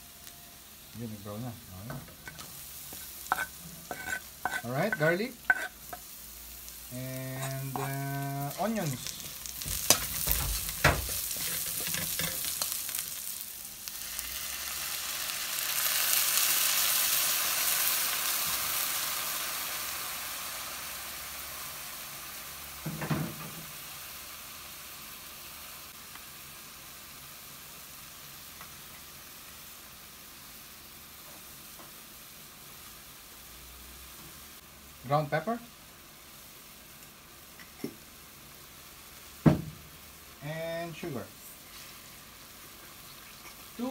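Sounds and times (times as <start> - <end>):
food sizzling in oil: 0.0 - 43.9
sauce sizzling in hot pan: 0.0 - 43.9.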